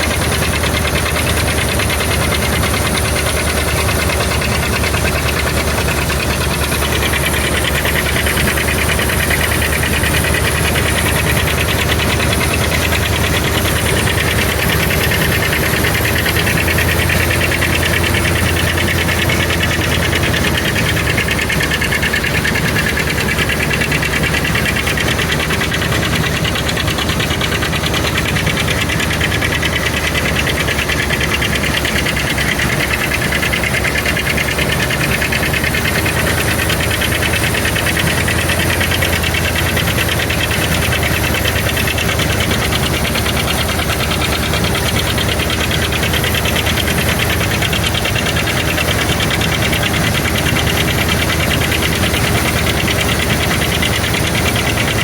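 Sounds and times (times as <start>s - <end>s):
harvester engine rattling: 0.0s - 55.0s.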